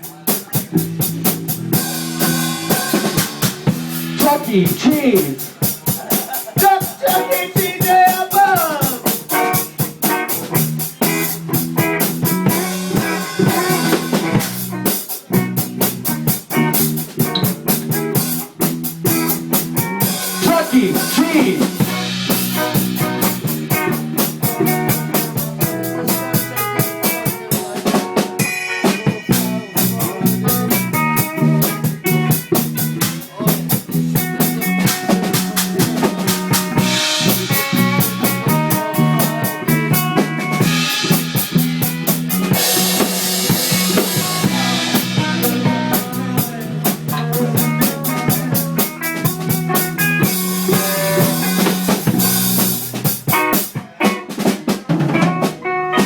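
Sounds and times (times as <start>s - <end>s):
band playing loud music: 0.0s - 56.0s.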